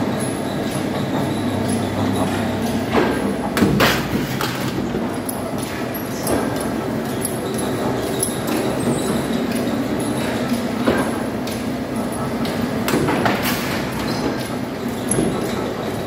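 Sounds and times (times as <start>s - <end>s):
metalworking machinery running: 0.0s - 16.0s.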